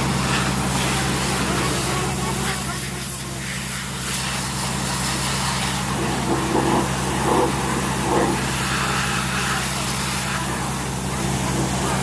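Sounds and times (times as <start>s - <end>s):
engine low hum: 0.0s - 12.0s.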